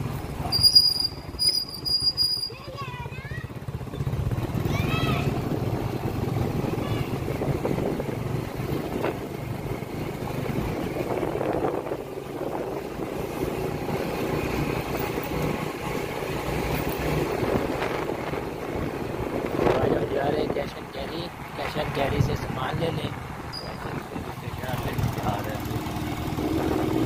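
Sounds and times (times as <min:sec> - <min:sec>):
motorcycle engine running: 0:00.0 - 0:27.0
road noise: 0:00.0 - 0:27.0.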